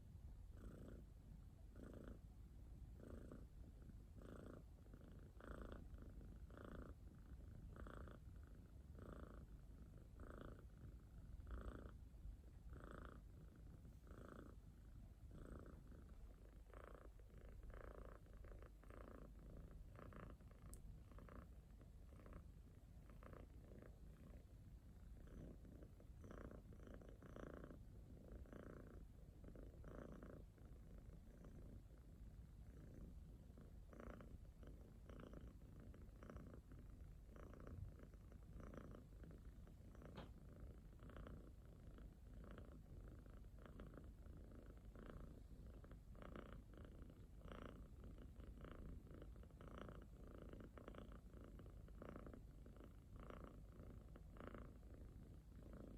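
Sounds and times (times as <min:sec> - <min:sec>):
cat purring softly: 0:00.0 - 0:55.9.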